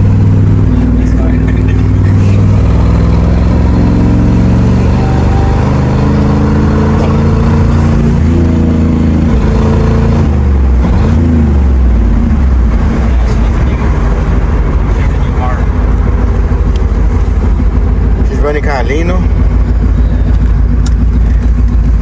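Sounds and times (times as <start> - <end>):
pickup engine running: 0.0 - 22.0
road noise: 0.0 - 22.0.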